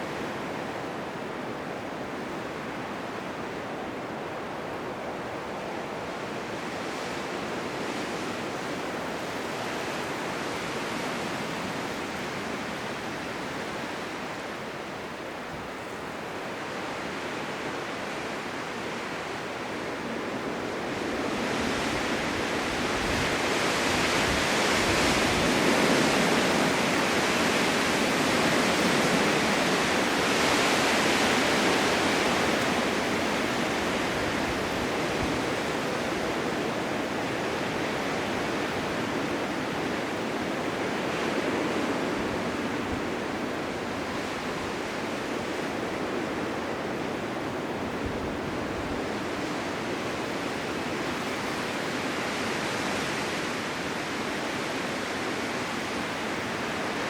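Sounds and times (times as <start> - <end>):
blizzard wind rushing: 0.0 - 57.0.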